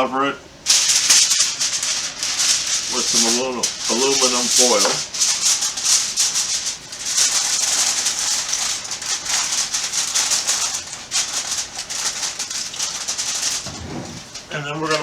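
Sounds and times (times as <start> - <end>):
aluminum foil crinkling: 0.6 - 15.0.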